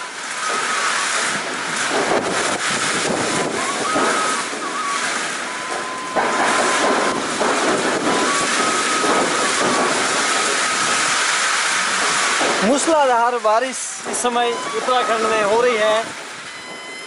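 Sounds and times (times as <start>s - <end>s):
rain pouring on concrete roof: 0.0s - 17.0s.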